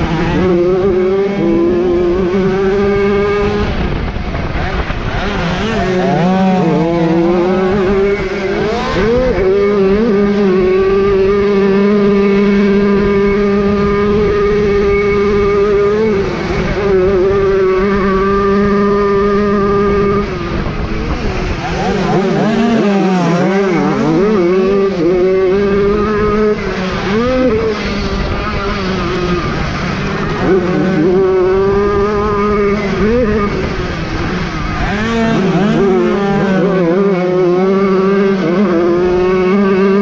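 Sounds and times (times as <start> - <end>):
moped engine revving: 0.0 - 40.0.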